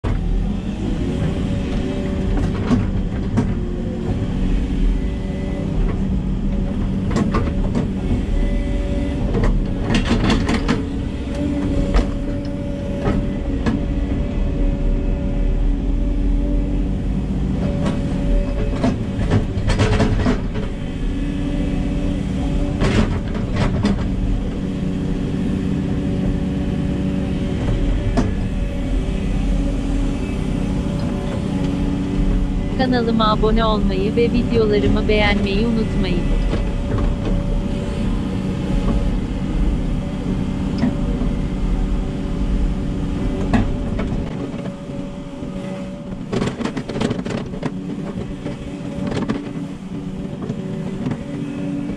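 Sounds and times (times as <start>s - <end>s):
excavator engine and hydraulics: 0.0s - 51.9s.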